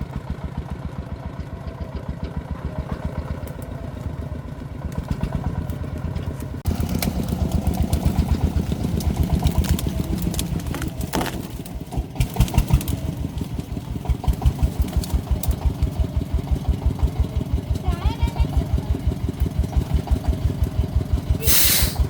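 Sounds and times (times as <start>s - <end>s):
diesel engine thudding: 0.0s - 22.0s.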